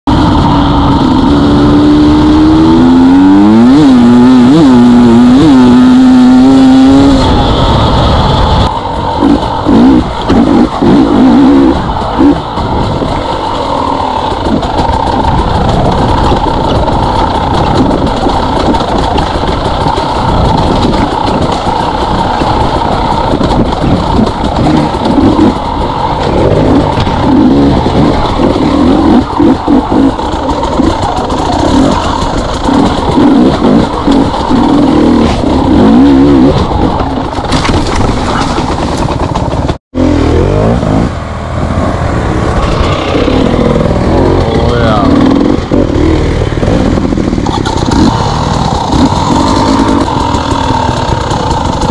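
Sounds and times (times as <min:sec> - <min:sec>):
dirt bike engine revving: 0:00.1 - 0:51.9.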